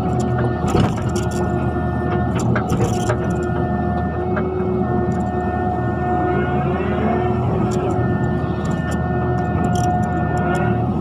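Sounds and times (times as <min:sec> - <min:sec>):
excavator diesel engine running: 0:00.0 - 0:11.0
high whine: 0:00.0 - 0:11.0.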